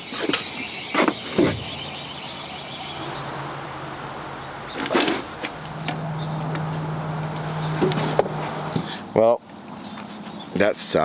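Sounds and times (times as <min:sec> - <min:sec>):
low engine hum: 0:00.4 - 0:10.5.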